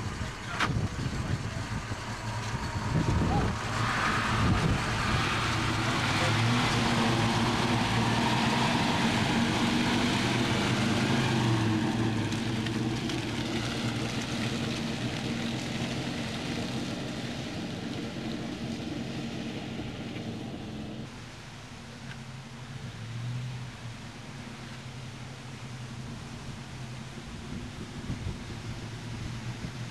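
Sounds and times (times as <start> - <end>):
truck engine driving off: 0.0 - 29.9.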